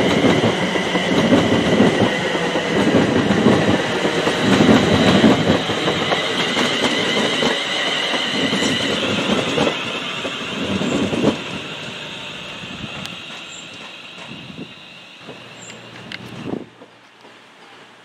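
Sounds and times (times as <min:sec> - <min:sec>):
train running on rails: 0:00.0 - 0:18.0.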